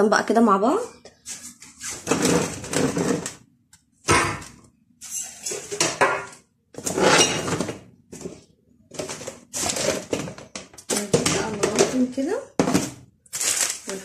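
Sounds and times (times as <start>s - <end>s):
plastic containers clattering: 1.6s - 14.0s.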